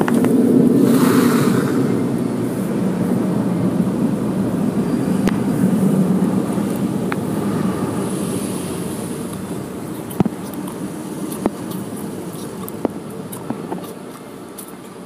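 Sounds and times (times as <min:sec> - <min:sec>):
muffled car wash machinery: 0:00.0 - 0:15.0.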